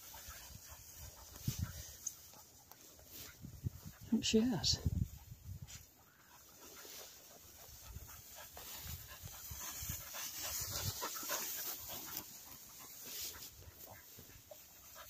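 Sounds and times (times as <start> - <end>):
dog panting hard: 0.0 - 4.1, 5.2 - 15.0.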